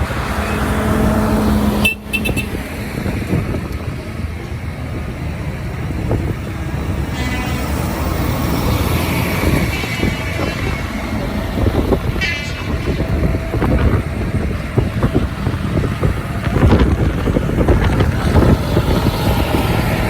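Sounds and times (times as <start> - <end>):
tractor engines rumbling: 0.0 - 20.0.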